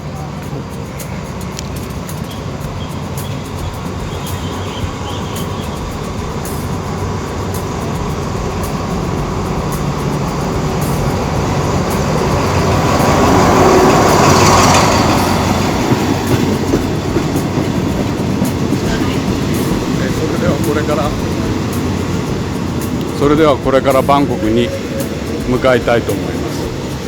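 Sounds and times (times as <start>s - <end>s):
train engine and wheel rumble: 0.0s - 27.0s
wheels clicking on rails: 0.0s - 27.0s.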